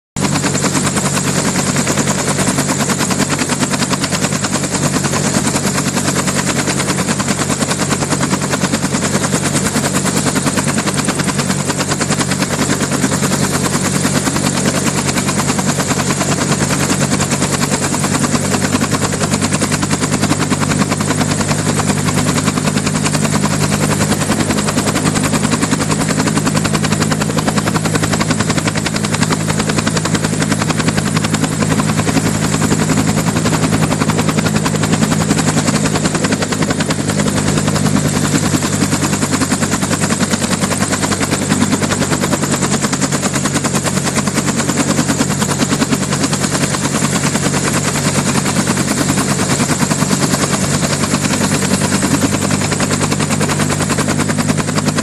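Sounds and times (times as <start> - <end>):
helicopter engine drone: 0.2 - 55.0
helicopter rotor beating: 0.2 - 55.0.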